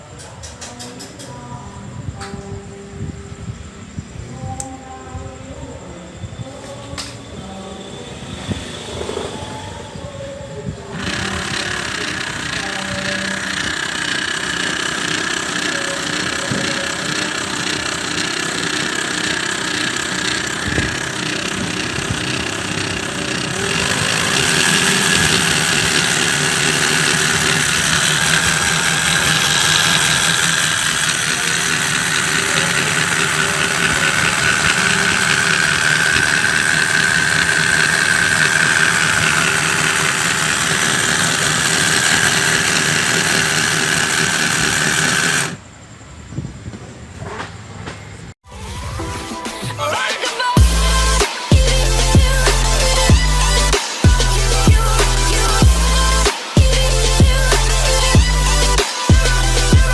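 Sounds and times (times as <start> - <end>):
model engine whining: 6.4 - 45.6, 50.5 - 59.9.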